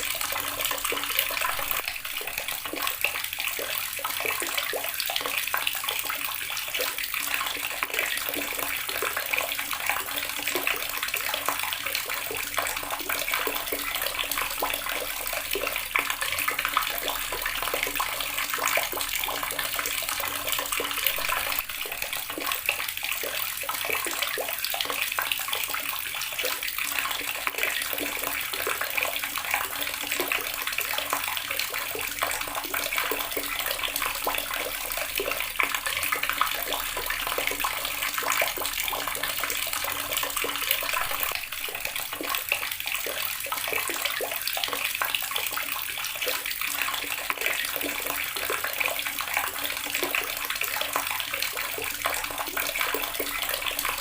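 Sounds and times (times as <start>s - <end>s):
tap water splashing into basin: 0.0s - 54.0s.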